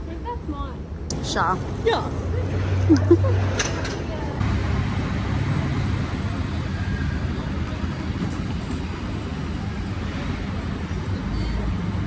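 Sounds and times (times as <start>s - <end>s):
low engine rumble: 1.0s - 12.0s.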